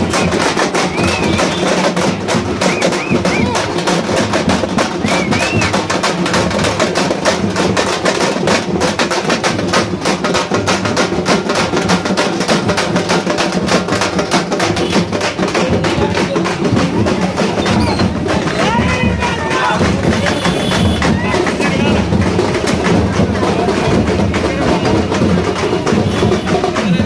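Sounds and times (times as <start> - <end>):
frame drums beaten with sticks: 0.0 - 27.0.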